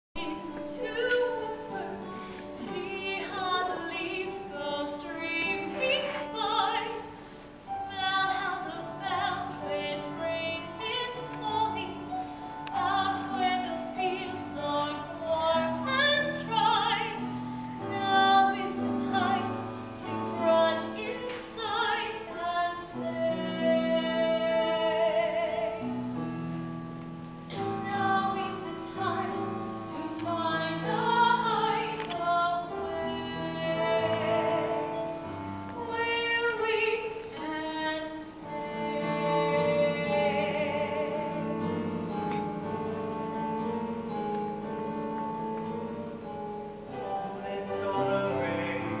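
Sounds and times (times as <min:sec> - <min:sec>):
woman singing with vibrato: 0:00.2 - 0:25.9, 0:27.6 - 0:42.9, 0:47.0 - 0:49.0.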